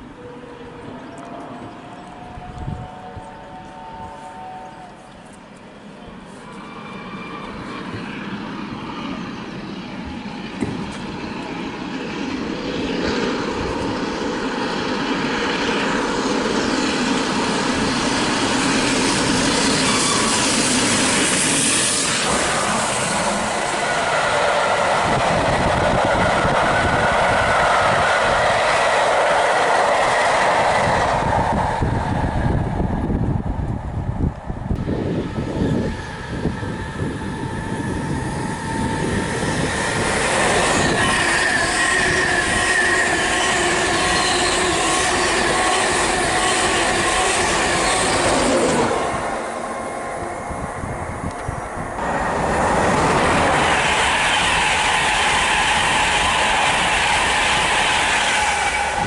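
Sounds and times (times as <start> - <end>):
train passing at speed: 0.0 - 59.0.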